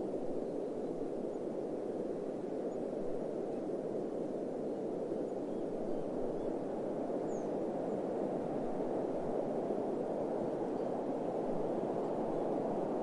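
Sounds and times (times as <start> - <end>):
muffled rushing wind: 0.0 - 13.0.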